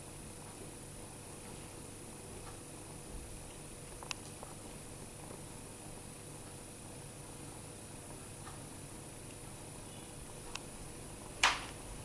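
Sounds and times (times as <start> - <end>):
low room tone hiss: 0.0 - 12.0.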